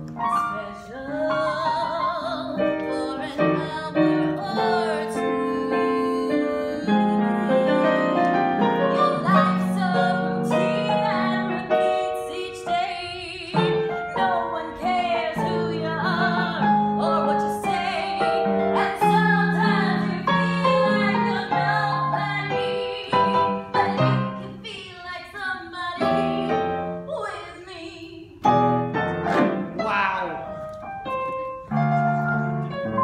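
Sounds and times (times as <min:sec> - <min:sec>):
piano accompaniment: 0:00.0 - 0:24.8, 0:26.0 - 0:27.2, 0:28.3 - 0:33.0
woman singing: 0:00.3 - 0:28.4.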